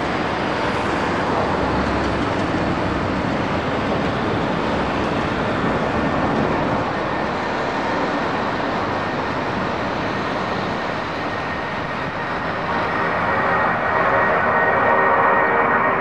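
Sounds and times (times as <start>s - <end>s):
jet engines roaring at takeoff: 0.0s - 16.0s.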